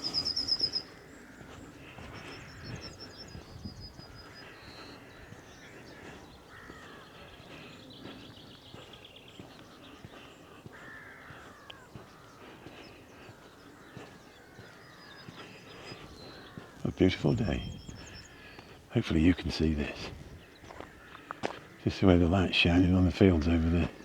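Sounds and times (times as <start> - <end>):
crows cawing: 0.0 - 19.3, 20.2 - 24.0
small birds chirping: 0.0 - 24.0.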